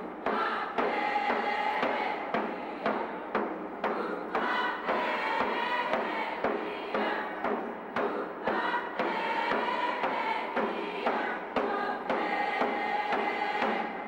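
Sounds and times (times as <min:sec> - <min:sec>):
steady drum beat: 0:00.0 - 0:14.0.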